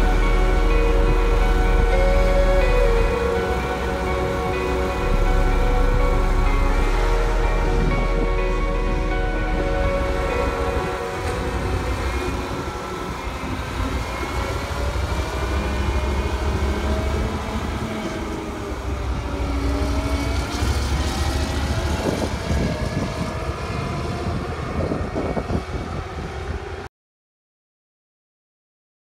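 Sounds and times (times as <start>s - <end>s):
combine harvester engine drone: 0.0s - 26.9s.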